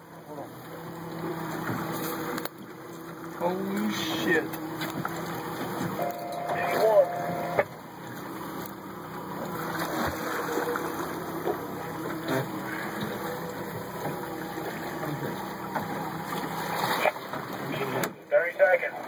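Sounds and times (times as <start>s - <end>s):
engine hum: 0.0s - 19.0s
water splashing against hull: 0.0s - 19.0s.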